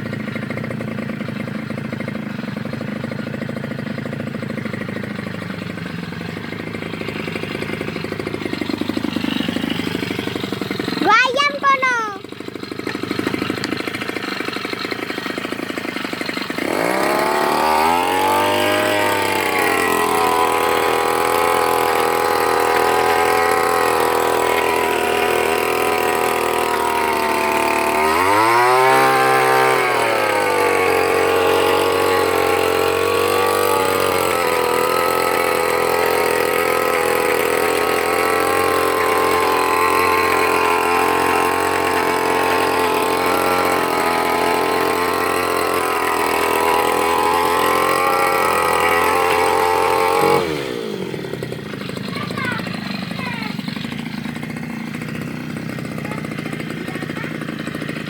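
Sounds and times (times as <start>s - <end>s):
brush cutter engine revving: 0.0s - 58.0s.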